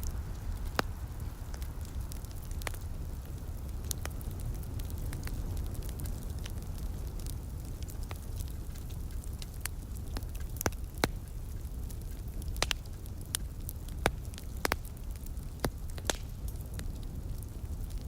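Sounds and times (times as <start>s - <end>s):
fire low rumble: 0.0s - 18.0s
wood fire crackling and popping: 0.0s - 18.0s.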